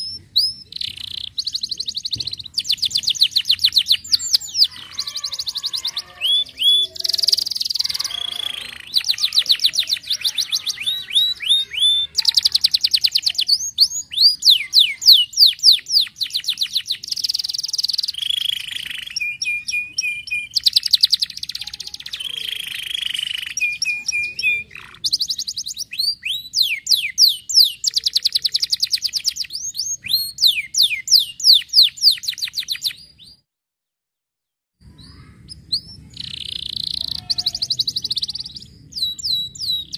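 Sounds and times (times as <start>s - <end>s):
canary singing trills: 0.0s - 33.4s, 34.8s - 39.9s.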